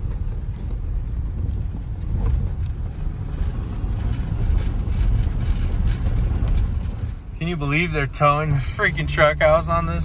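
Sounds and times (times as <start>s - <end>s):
faint clicks and rattles: 0.0s - 8.2s
vehicle engine and tyres rumbling: 0.0s - 10.0s.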